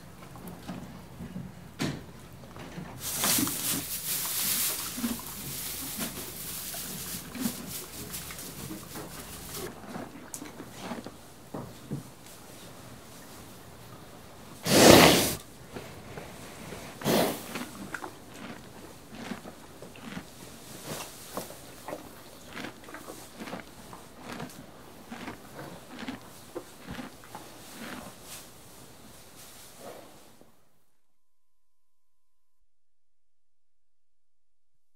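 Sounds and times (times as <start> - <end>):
horse chewing hay: 0.1 - 30.4.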